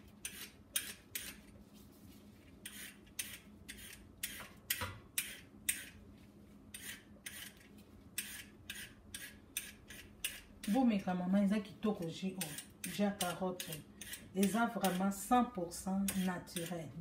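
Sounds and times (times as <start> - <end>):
peeler scraping carrot: 0.0 - 1.5, 2.6 - 6.0, 6.7 - 11.0, 12.0 - 17.0.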